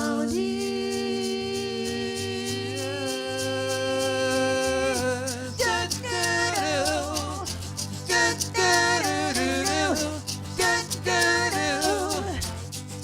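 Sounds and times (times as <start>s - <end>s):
duo singing: 0.0s - 12.8s.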